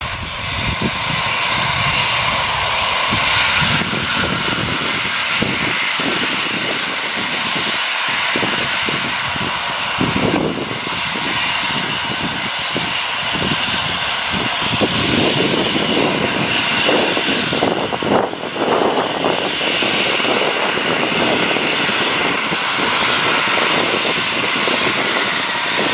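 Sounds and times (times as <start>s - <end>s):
steam locomotive roar of steam: 0.0s - 25.9s.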